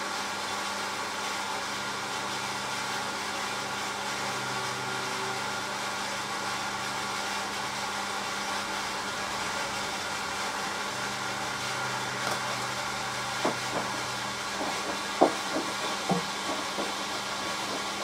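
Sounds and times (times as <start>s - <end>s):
water rushing into washing machine: 0.0s - 18.0s.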